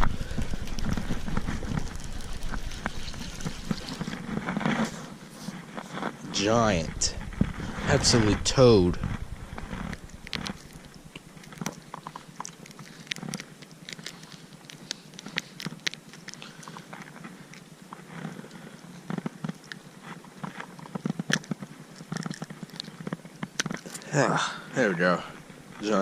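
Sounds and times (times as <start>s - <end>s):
fishing gear clicks and crackles: 0.0s - 4.9s, 6.7s - 24.1s.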